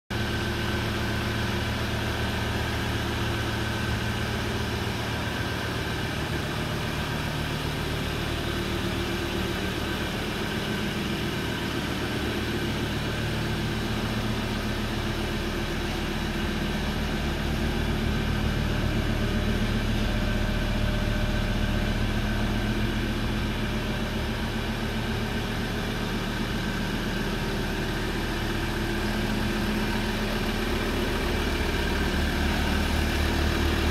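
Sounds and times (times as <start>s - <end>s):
fire truck engine idling: 0.1s - 33.9s.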